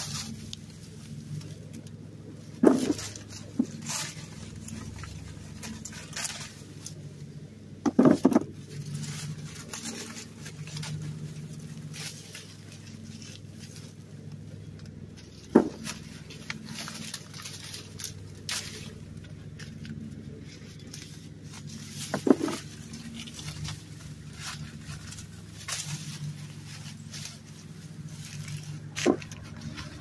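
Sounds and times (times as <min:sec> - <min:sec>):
corn stalks rustling and crackling: 0:00.0 - 0:30.0
low steady hum: 0:00.0 - 0:30.0.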